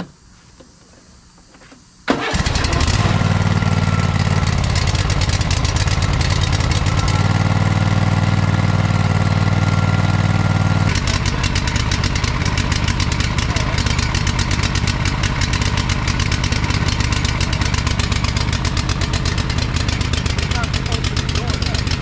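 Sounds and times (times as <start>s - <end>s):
lawn mower engine: 2.1s - 22.0s.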